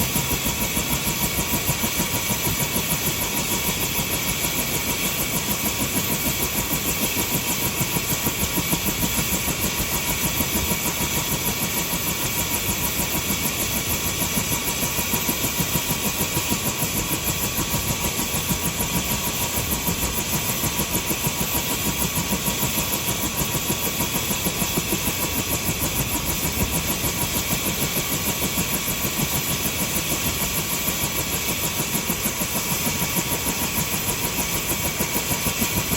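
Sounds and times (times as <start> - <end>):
helicopter rotor pulsing: 0.0 - 35.9.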